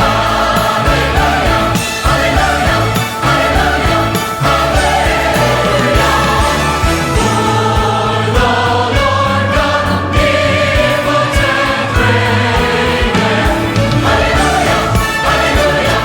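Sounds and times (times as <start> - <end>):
choir singing with orchestra: 0.0 - 16.0
steady beat: 0.0 - 16.0.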